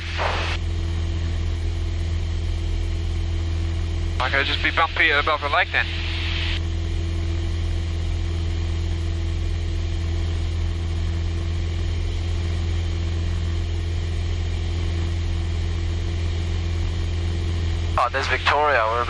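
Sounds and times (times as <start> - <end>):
aircraft cabin engine drone: 0.0 - 19.0.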